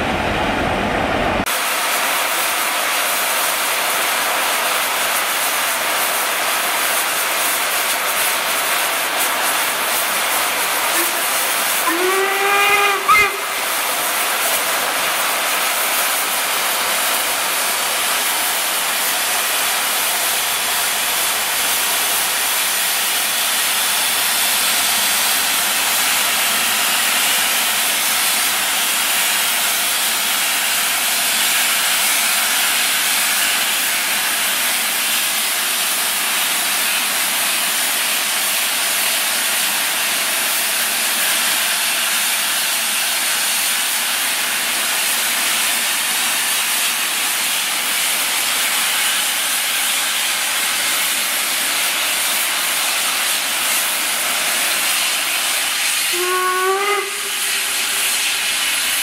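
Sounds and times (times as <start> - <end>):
steam hissing from locomotive: 1.5 - 59.0.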